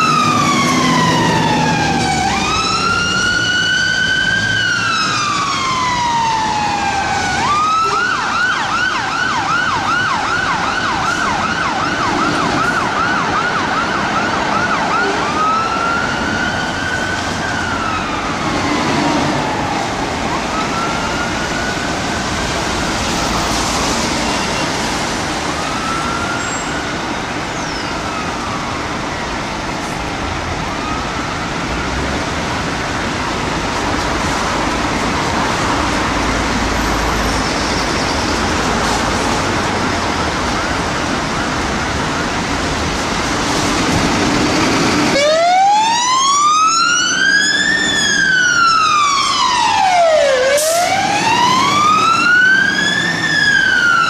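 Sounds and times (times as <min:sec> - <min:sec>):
fire engine siren: 0:00.0 - 0:54.0.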